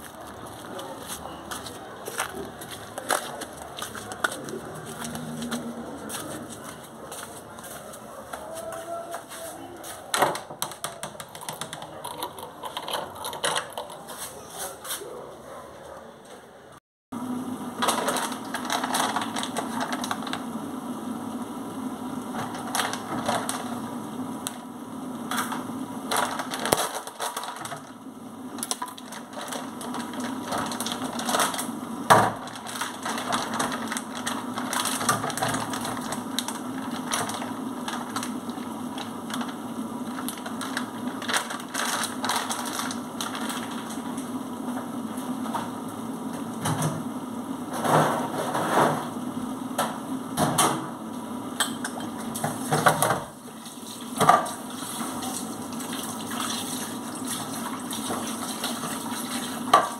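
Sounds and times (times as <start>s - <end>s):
steady low hum: 0.0s - 8.6s, 15.0s - 57.8s.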